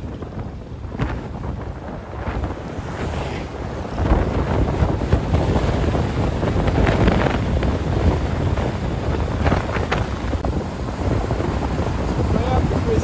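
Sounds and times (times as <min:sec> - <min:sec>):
road and engine noise: 0:00.0 - 0:13.0
wind buffeting microphone: 0:00.0 - 0:13.0.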